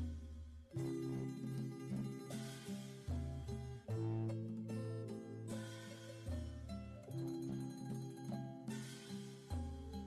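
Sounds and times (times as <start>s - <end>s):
plucked string notes: 0.0s - 10.0s.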